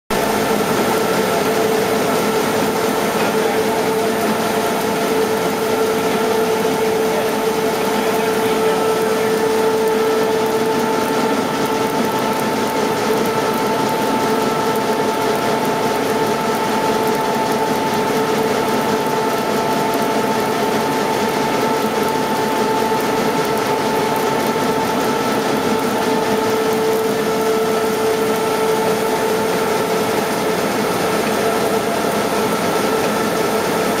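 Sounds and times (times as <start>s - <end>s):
printing press running: 0.1s - 34.0s.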